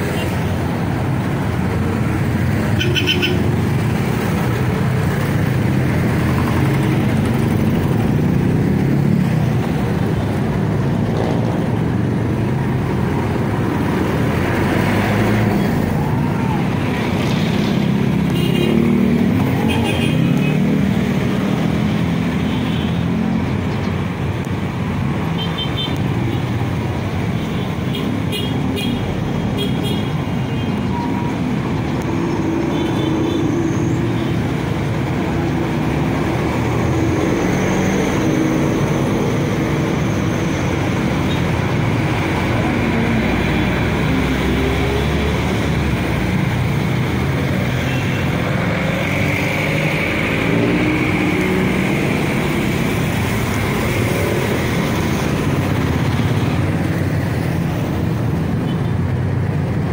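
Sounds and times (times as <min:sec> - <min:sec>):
motorcycle and car engines passing: 0:00.0 - 0:59.9.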